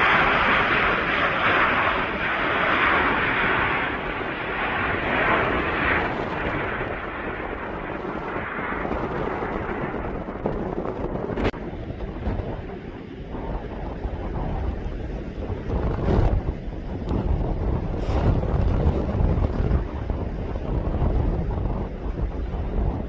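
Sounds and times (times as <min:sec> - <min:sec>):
airplane engine noise: 0:00.0 - 0:23.0
wind buffeting microphone: 0:00.0 - 0:23.0.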